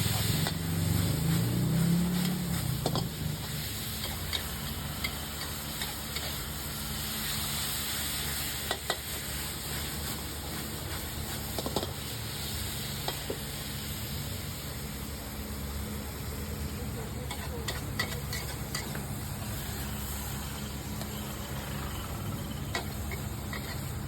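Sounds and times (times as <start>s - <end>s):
food sizzling as it fries: 0.0s - 24.0s.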